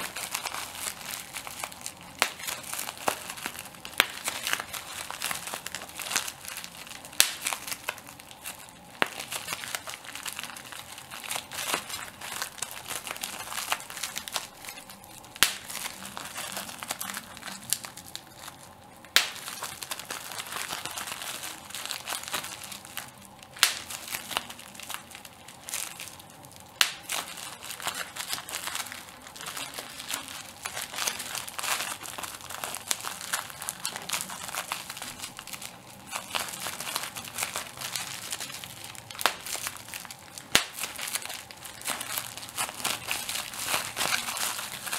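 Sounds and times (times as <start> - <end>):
bubble wrap crinkling and popping: 0.0 - 44.9.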